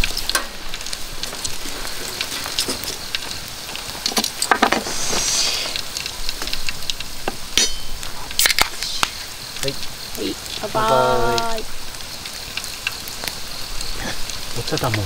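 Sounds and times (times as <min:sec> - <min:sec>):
campfire pops and crackles: 0:00.0 - 0:15.0
meat sizzling on grill: 0:00.0 - 0:15.0.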